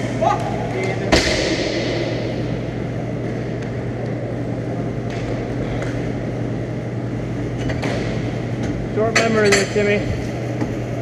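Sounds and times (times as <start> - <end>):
arena noise: 0.0 - 11.0
low hum: 0.0 - 11.0.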